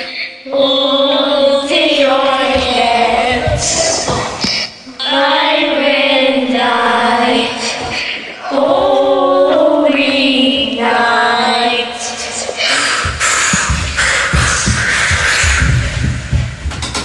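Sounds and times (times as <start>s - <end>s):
group of voices singing: 0.0s - 16.4s.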